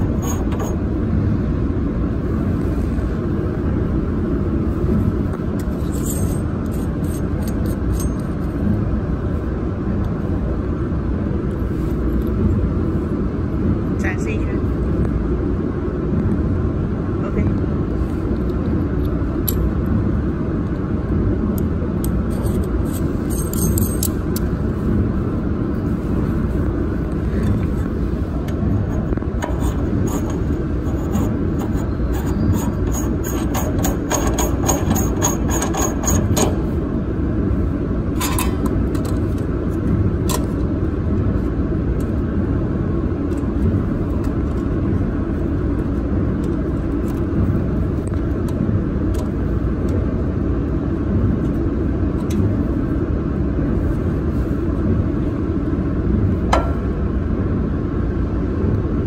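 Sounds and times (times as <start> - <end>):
machinery rumble: 0.0 - 59.0.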